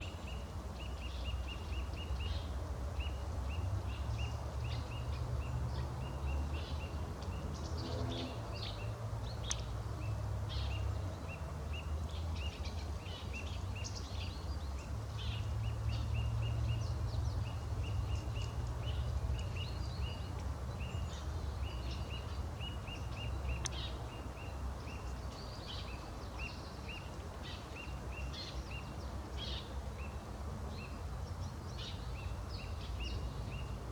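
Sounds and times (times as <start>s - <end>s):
birds calling and singing: 0.0s - 33.9s.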